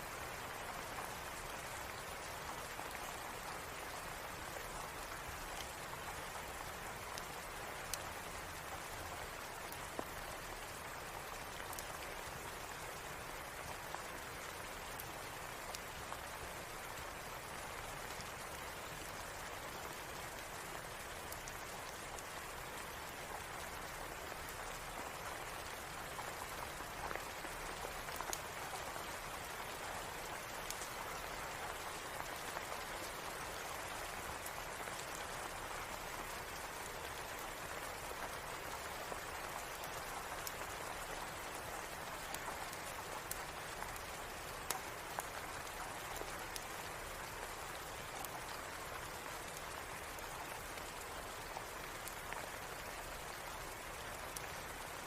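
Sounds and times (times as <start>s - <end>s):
steady rain: 0.0s - 55.0s
wood fire crackling: 0.4s - 55.0s.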